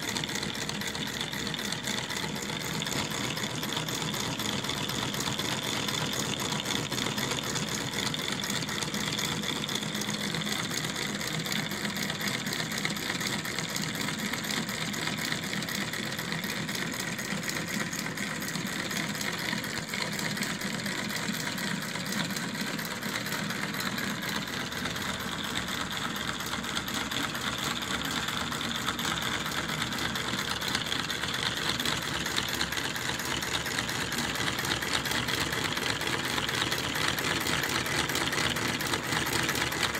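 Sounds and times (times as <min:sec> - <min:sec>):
model engine mechanical clatter: 0:00.0 - 0:39.9.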